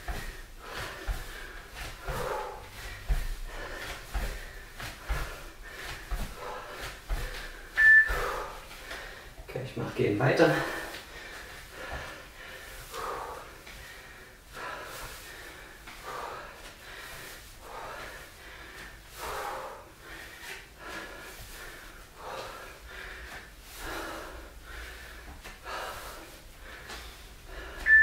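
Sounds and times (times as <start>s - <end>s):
man breathing hard: 0.0s - 9.5s, 10.4s - 28.0s.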